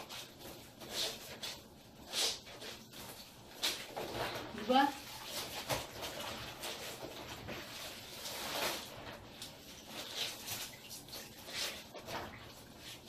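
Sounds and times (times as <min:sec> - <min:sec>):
wet fabric scrubbed in water: 0:00.0 - 0:13.0.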